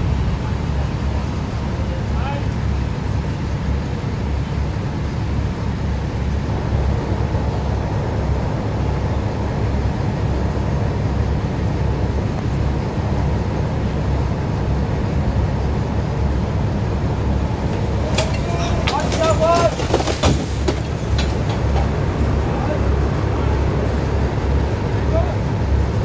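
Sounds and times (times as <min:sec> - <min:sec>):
heavy equipment engine running: 0:00.0 - 0:26.0.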